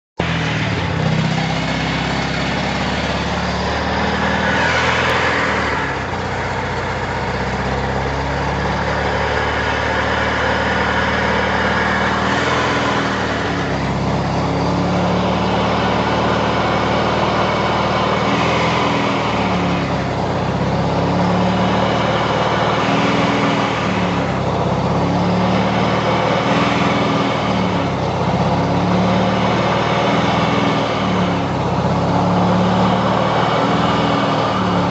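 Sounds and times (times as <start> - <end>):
rotary engine revving: 0.2 - 34.9
turbo whine: 0.2 - 34.9.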